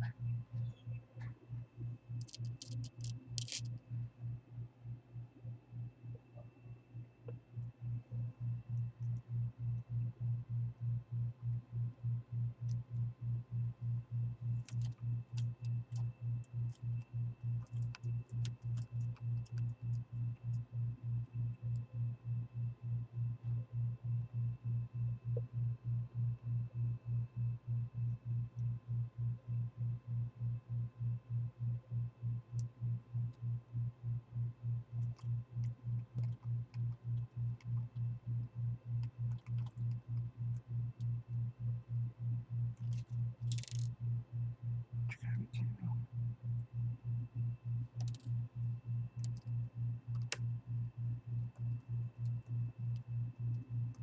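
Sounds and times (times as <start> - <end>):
pulsing low hum: 0.0 - 54.0.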